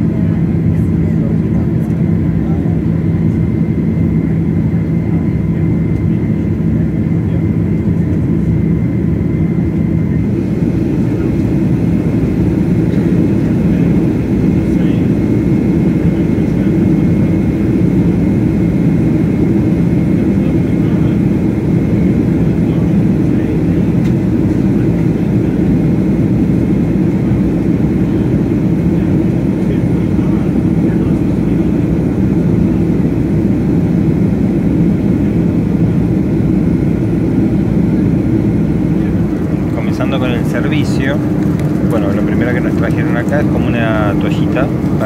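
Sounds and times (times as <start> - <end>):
jet engines droning: 0.0 - 45.0.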